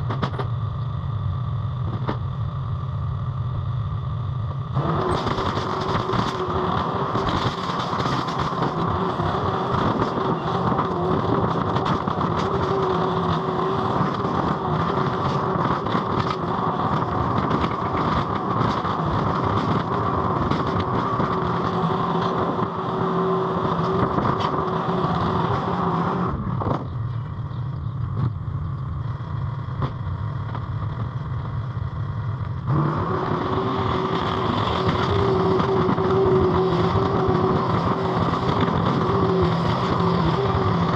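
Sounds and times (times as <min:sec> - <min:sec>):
skid steer engine drone: 0:00.0 - 0:40.9.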